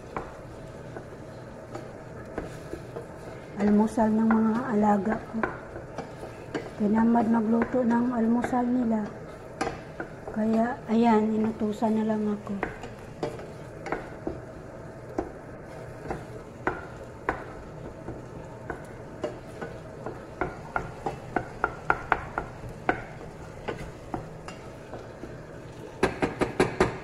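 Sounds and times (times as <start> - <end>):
wooden spoon scraping a pan: 0.0 - 14.5, 15.2 - 26.9
food sizzling: 0.0 - 27.0.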